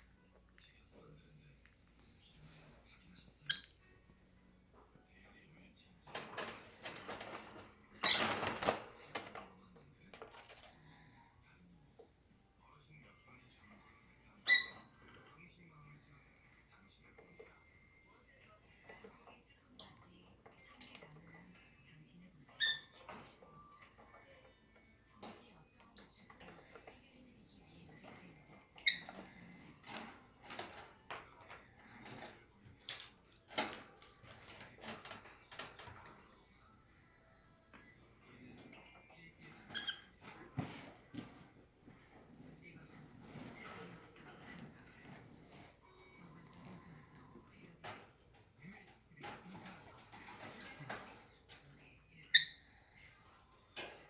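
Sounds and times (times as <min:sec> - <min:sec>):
lovebirds scratching and rustling: 0:00.6 - 0:52.7.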